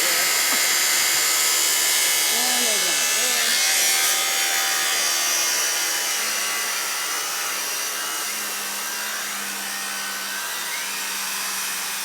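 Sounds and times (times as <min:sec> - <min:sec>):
power saw running: 0:00.0 - 0:12.0.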